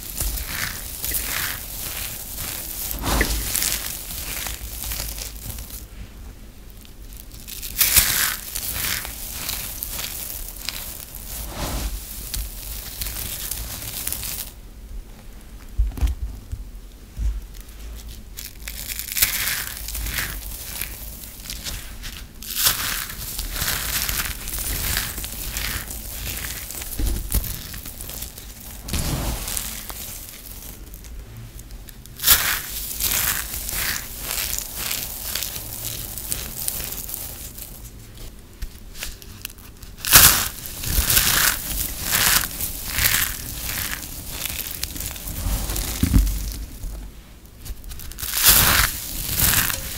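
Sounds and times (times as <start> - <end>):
soap shavings crunching between hands: 0.0 - 5.9, 6.8 - 14.6, 17.5 - 47.0, 47.6 - 49.9.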